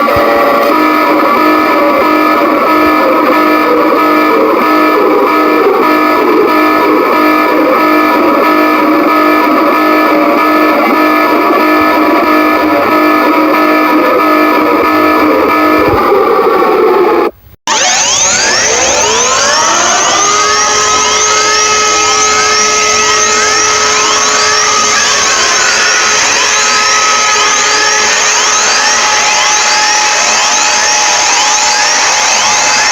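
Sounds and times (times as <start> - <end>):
alarm drone of held tones: 0.0 - 32.9
distorted electric guitar music: 0.0 - 32.9.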